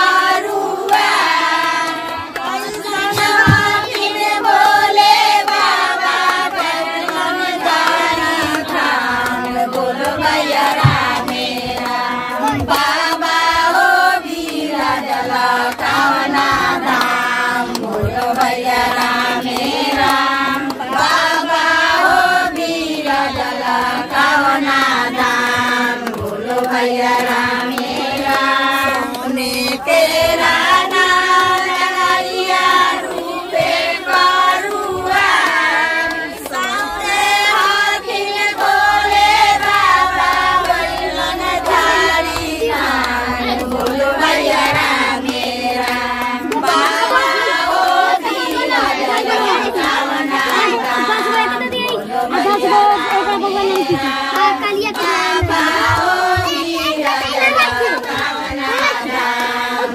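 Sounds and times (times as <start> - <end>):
women singing in chorus: 0.0 - 59.9.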